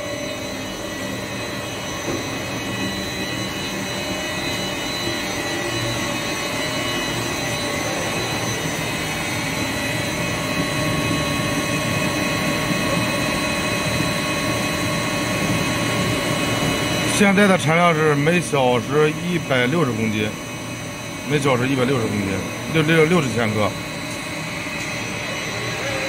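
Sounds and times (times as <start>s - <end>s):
high machine whines: 0.0s - 26.0s
steady machine hum: 0.0s - 26.0s.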